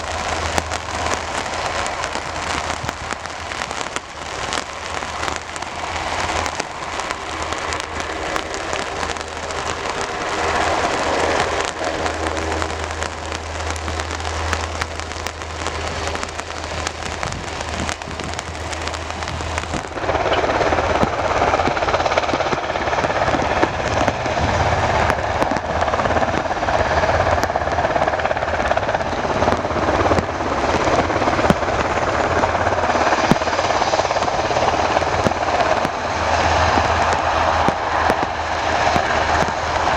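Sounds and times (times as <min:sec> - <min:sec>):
helicopter droning: 0:00.0 - 0:39.9
rain drops crackling: 0:00.0 - 0:39.9.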